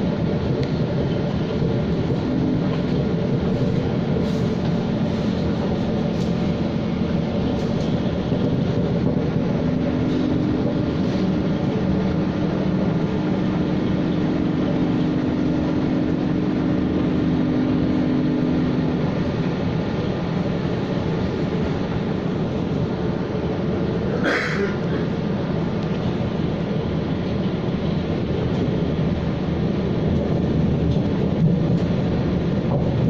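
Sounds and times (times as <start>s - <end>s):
metro train running on track: 0.0s - 33.0s.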